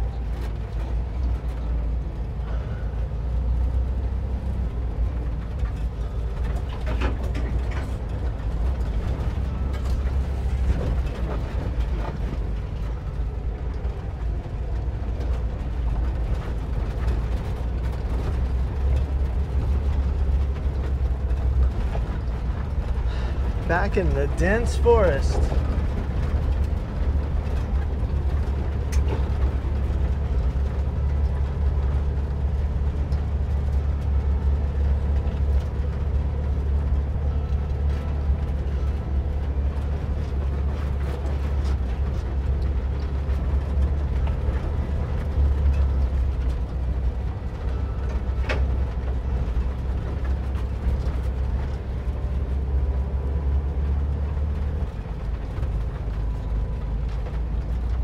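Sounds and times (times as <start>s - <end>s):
van engine droning: 0.0s - 58.0s.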